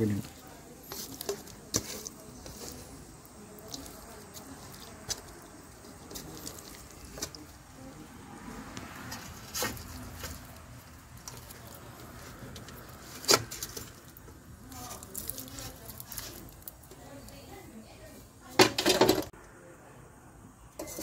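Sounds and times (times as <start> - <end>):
handling and rustling: 0.0 - 8.0, 8.8 - 19.3.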